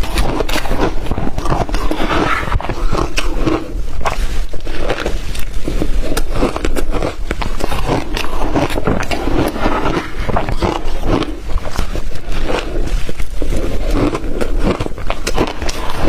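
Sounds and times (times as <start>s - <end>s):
ice crunching while chewing: 0.0s - 16.0s.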